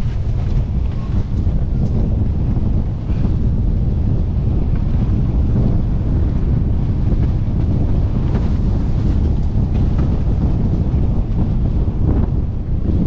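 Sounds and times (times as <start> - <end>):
water rushing under board: 0.0 - 13.0
wind buffeting microphone: 0.0 - 13.0.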